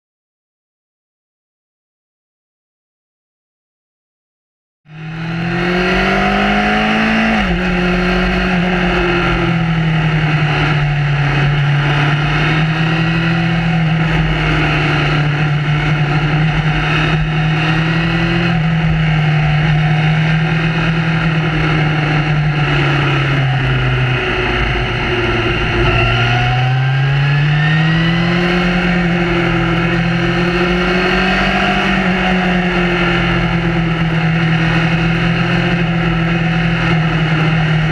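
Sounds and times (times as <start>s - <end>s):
motorcycle engine: 4.9s - 37.9s
wind and road rush: 4.9s - 37.9s.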